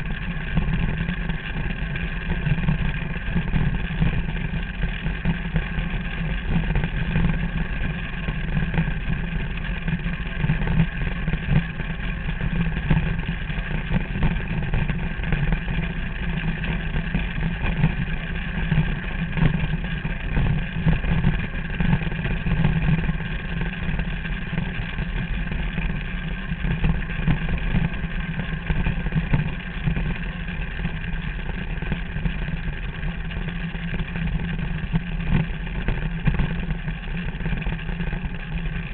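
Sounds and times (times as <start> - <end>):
small engine running steadily: 0.0 - 38.9.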